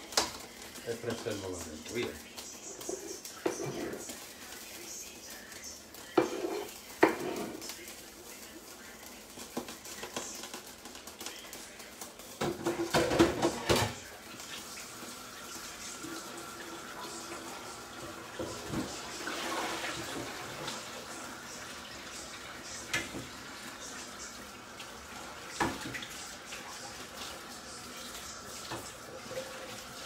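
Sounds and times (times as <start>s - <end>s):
pots and dishes clattering: 0.0s - 4.7s, 5.9s - 7.8s, 9.3s - 30.0s.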